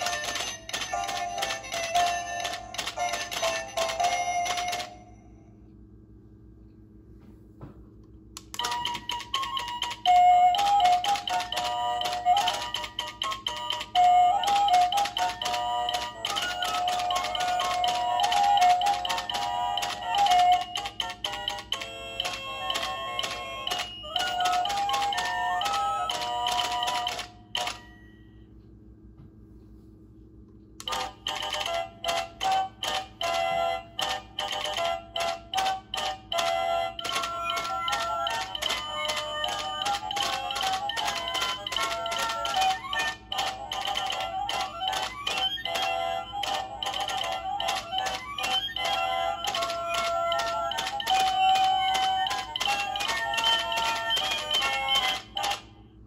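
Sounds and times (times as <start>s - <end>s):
rapid tap-dancing clicks: 0.0s - 4.9s, 8.5s - 27.8s, 30.8s - 55.6s
tinny electronic christmas tune: 0.0s - 5.5s, 8.5s - 28.5s, 30.8s - 55.6s.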